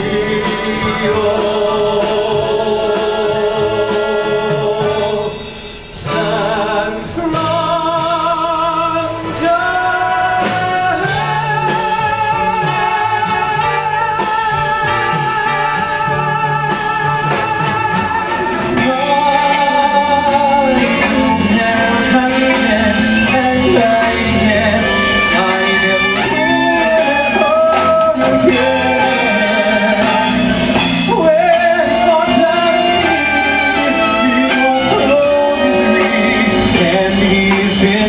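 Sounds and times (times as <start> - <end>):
musical accompaniment: 0.0 - 38.0
person singing with vibrato: 0.0 - 38.0.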